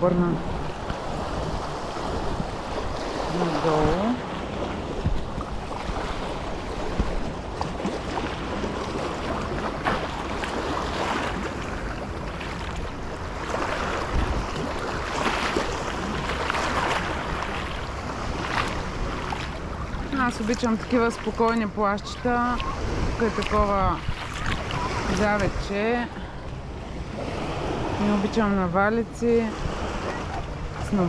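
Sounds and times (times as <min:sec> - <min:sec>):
wind buffeting microphone: 0:00.0 - 0:31.0
small waves lapping on stones: 0:01.3 - 0:26.2.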